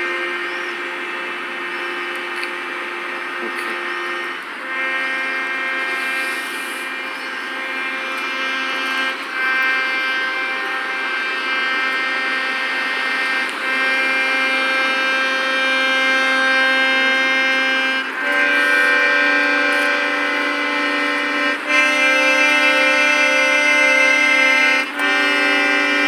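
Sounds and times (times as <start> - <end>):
accordion playing chords: 0.0 - 26.0.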